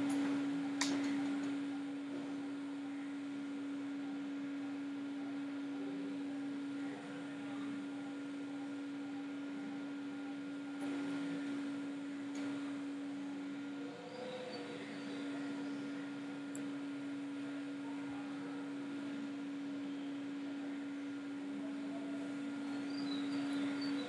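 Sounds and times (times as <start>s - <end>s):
steady tonal hum: 0.0s - 24.0s.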